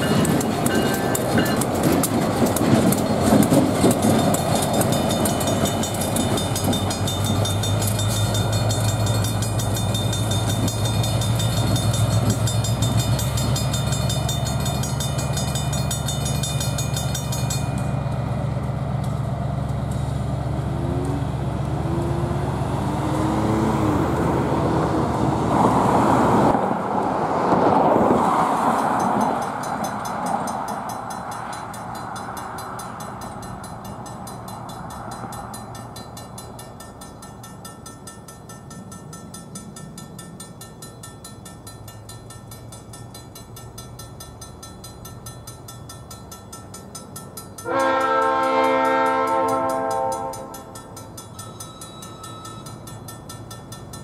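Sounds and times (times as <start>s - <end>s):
crossing bell ringing: 0.0s - 18.6s, 28.7s - 54.0s
diesel locomotive engine droning: 0.0s - 54.0s.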